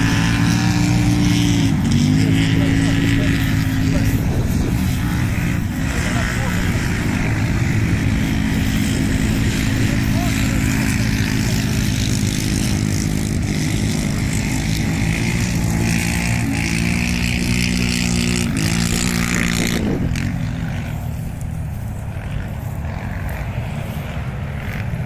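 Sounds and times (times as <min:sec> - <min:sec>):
quad bike engine running hard: 0:00.0 - 0:25.0.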